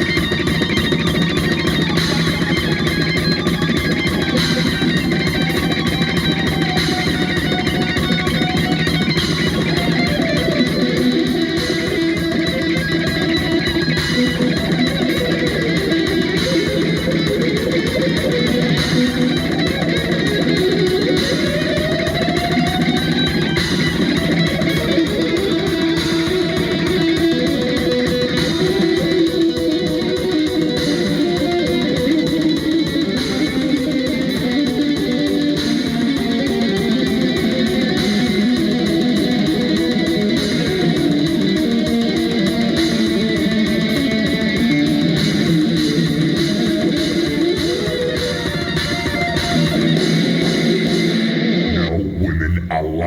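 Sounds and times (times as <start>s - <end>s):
bass guitar: 0.0s - 53.0s
electric guitar: 0.0s - 53.0s
steady drum beat: 0.0s - 53.0s.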